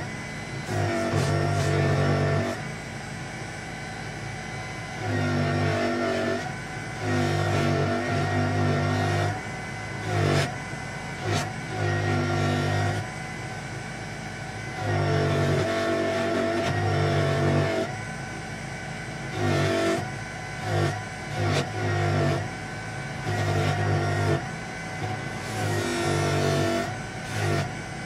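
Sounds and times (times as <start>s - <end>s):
electric polisher motor whine: 0.0s - 28.0s.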